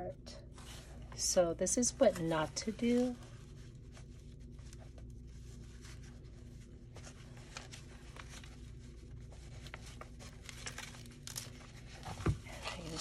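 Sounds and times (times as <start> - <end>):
steady low hum: 0.0 - 13.0
paper pages rustling: 1.8 - 13.0.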